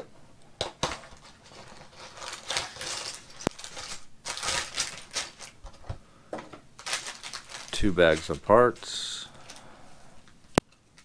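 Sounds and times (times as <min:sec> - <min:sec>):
cardboard packaging rustling: 0:00.7 - 0:09.7
plastic bags crinkling: 0:00.7 - 0:11.0.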